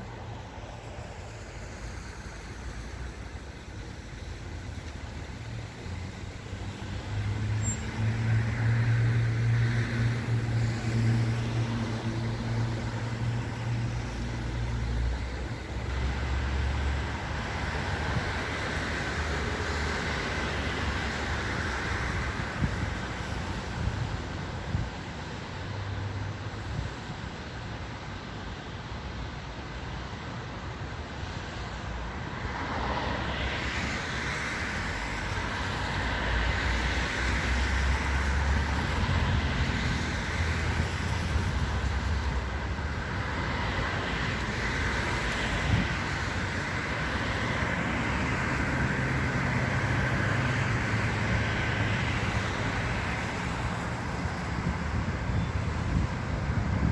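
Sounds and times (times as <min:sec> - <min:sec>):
train rumbling past: 0:00.0 - 0:56.9.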